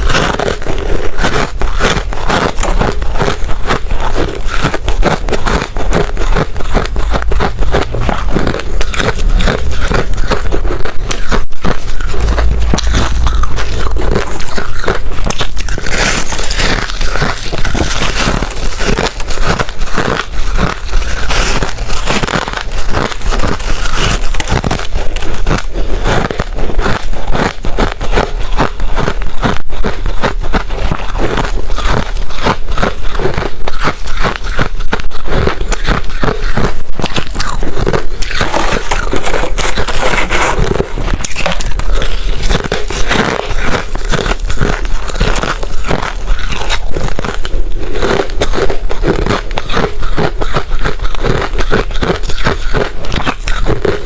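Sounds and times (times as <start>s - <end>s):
person chewing crushed ice: 0.0s - 54.0s.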